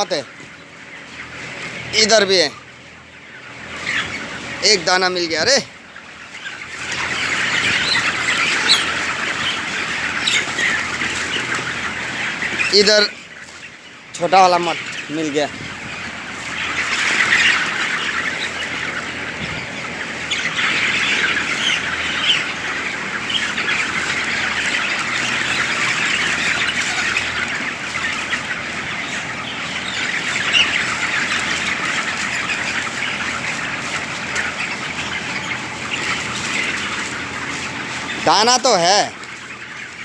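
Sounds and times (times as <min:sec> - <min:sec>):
flock of chickens cheeping and squawking: 0:00.0 - 0:40.0.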